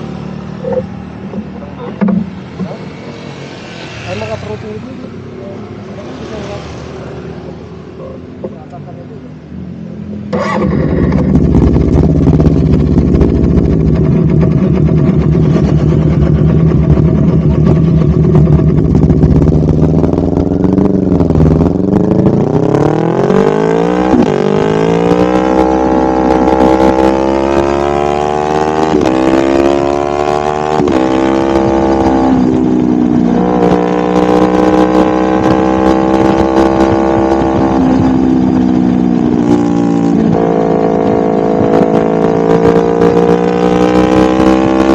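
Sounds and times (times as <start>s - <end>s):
motorcycle engine revving: 0.0s - 8.5s, 9.7s - 44.9s.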